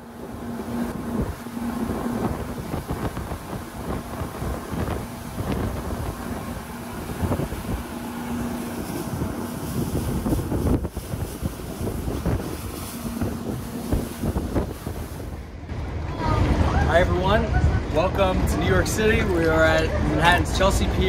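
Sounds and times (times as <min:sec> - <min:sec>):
boat wake rushing: 0:00.0 - 0:21.0
outboard engines humming: 0:00.0 - 0:21.0
wind buffeting microphone: 0:00.0 - 0:21.0.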